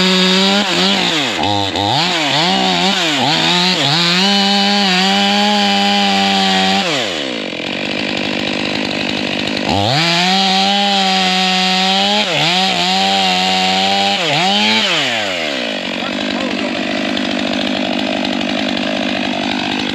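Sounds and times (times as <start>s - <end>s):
chainsaw cutting log: 0.0s - 19.9s.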